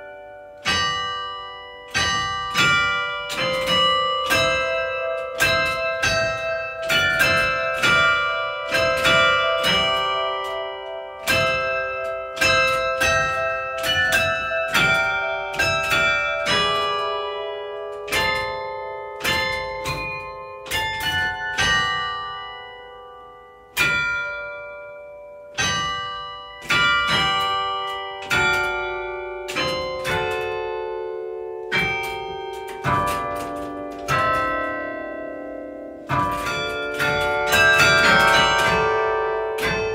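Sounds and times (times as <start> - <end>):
church bells playing a tune: 0.0 - 39.9.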